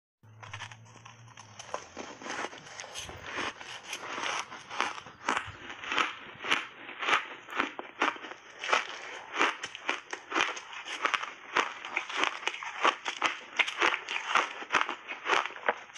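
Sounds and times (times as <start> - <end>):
ice crunching between teeth: 0.3 - 15.9.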